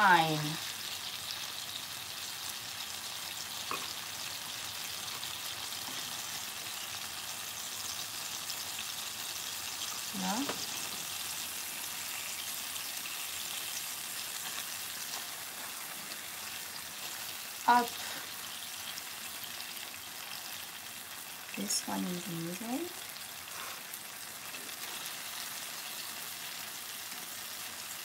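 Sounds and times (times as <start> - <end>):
food sizzling in frying pan: 0.0 - 28.0.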